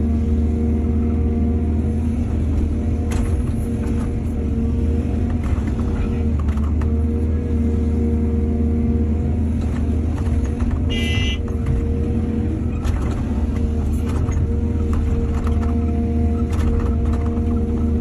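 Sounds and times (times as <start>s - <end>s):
heavy diesel machinery running: 0.0s - 18.0s.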